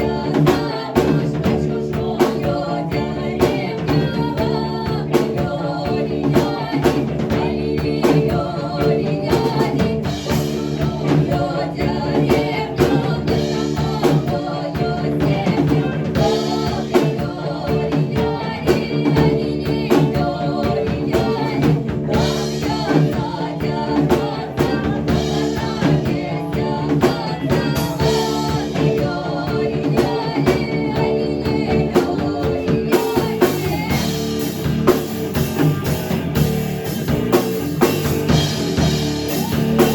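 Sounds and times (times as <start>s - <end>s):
bass and chord notes: 0.0s - 39.9s
drum kit steady beat: 0.0s - 39.9s.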